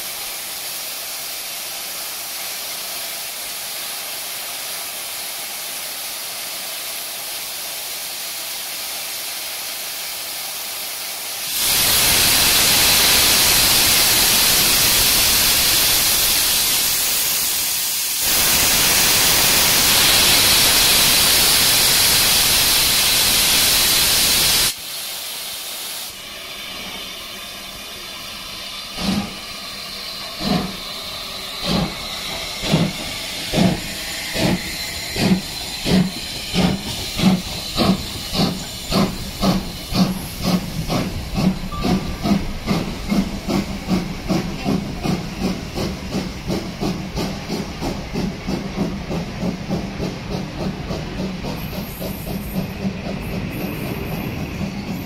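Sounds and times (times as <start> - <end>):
loud rush of steam: 0.0 - 55.0
steady hiss of steam: 0.0 - 55.0
steam locomotive exhaust beats: 0.0 - 55.0.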